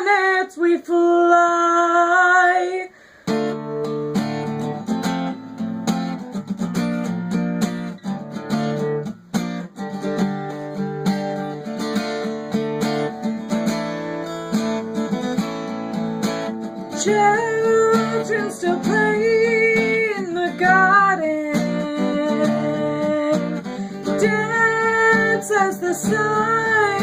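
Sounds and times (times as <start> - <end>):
acoustic guitar playing: 2.5 - 27.0.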